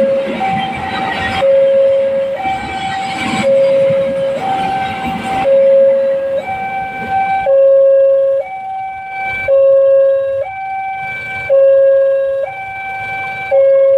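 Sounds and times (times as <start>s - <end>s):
level crossing two-tone alarm: 0.0s - 13.9s
train rumble: 0.0s - 13.9s.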